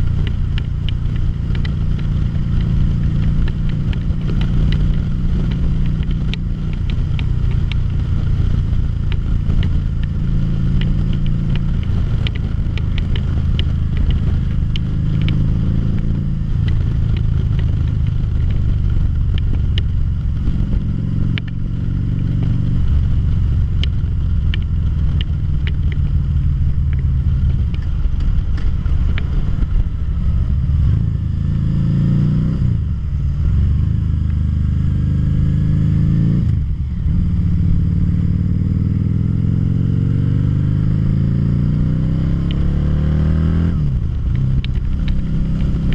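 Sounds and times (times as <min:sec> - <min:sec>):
motorcycle engine running: 0:00.0 - 0:45.9
road noise: 0:00.0 - 0:45.9.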